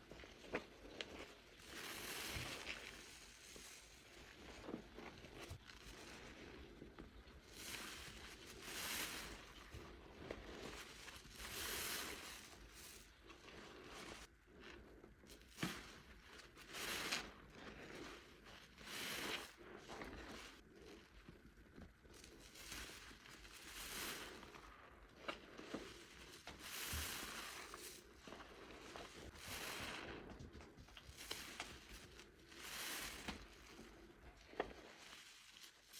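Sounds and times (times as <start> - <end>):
wet soap foam squelching: 0.0 - 35.9.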